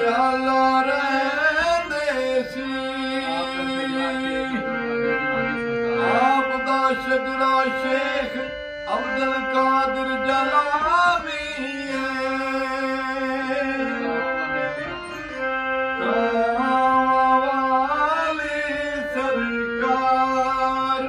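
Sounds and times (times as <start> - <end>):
harmonium playing chords: 0.0 - 21.0
man singing long notes: 0.0 - 21.0.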